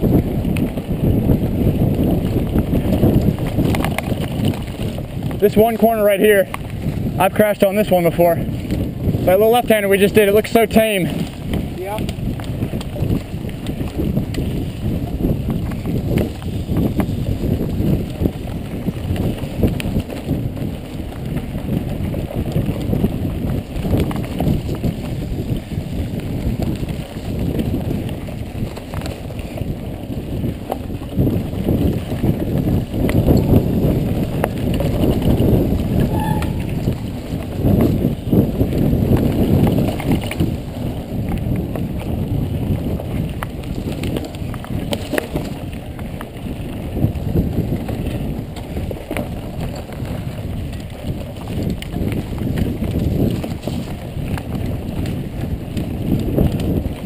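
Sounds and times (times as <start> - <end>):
bike rattling over bumps: 0.0 - 57.0
bike tyres rumbling on dirt: 0.0 - 57.0.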